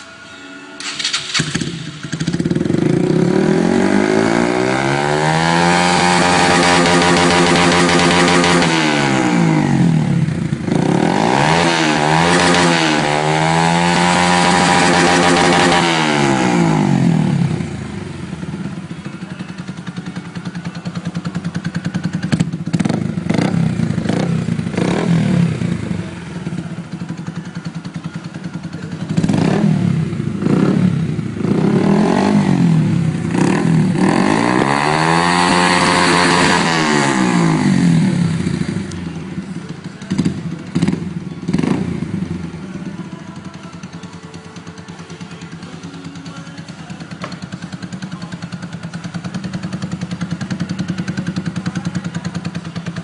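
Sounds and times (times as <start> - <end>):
motorcycle engine revving: 0.8 - 53.0.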